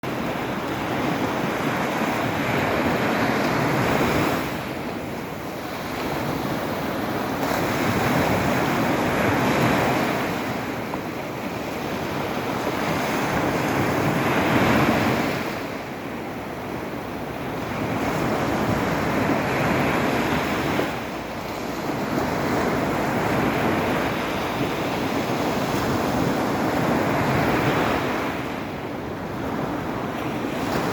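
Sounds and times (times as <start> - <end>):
waves breaking on shore: 0.0 - 30.9.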